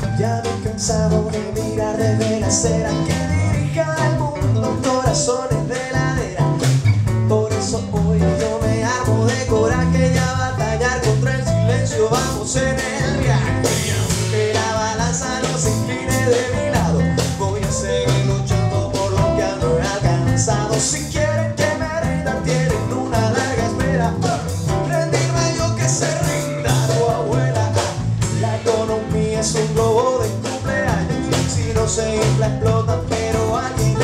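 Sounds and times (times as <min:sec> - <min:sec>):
acoustic guitars: 0:00.0 - 0:34.0
bass notes: 0:00.0 - 0:34.0
drum kit: 0:00.0 - 0:34.0
man singing: 0:00.0 - 0:34.0.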